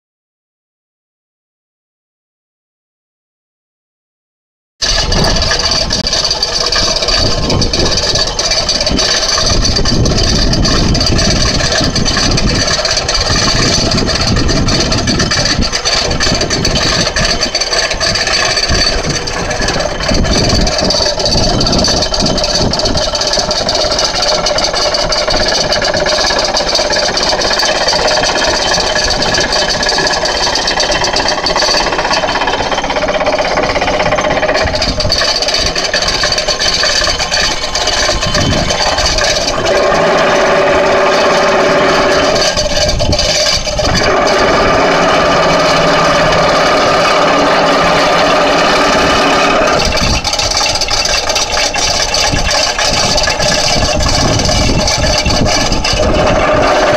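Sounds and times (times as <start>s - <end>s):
diesel engine: 4.8s - 56.9s
vibratory pile driver rattling: 4.8s - 56.9s.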